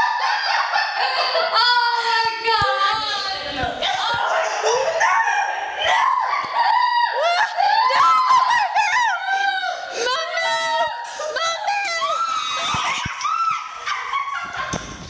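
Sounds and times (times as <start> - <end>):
young women shrieking and laughing: 0.0 - 15.0.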